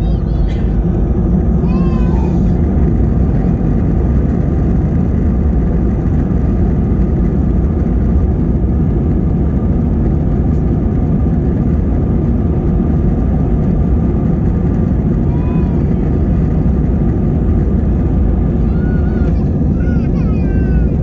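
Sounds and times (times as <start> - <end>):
jet cabin engine rumble: 0.0 - 21.0.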